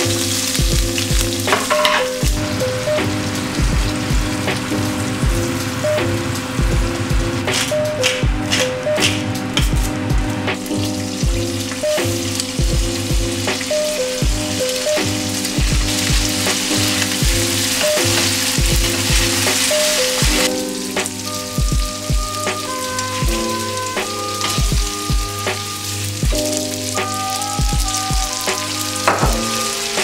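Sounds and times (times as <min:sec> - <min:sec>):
background music with steady beat: 0:00.0 - 0:30.0
food sizzling in oil: 0:00.0 - 0:30.0.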